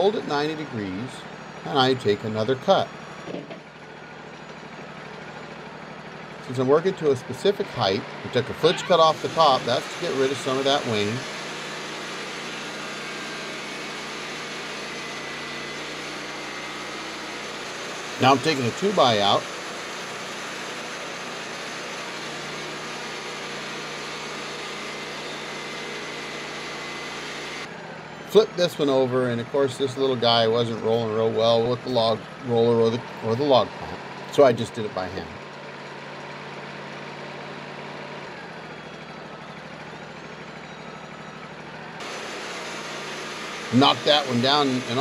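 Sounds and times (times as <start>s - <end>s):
bandsaw mill cutting wood: 0.0s - 45.0s
sawmill engine idling: 0.0s - 45.0s.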